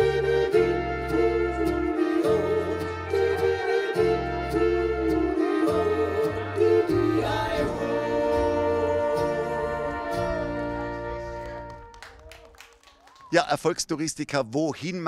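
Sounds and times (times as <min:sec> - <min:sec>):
folk band with accordion and trumpet: 0:00.0 - 0:12.2.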